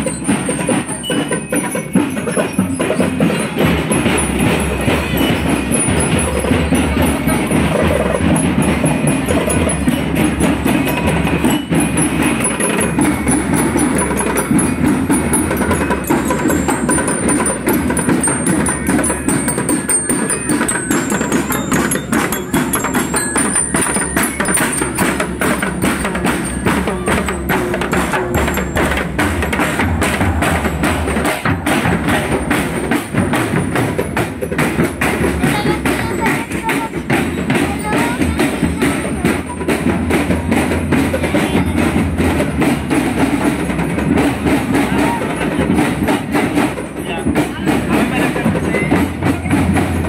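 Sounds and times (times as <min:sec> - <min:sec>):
parade drums and percussion: 0:00.0 - 0:50.0.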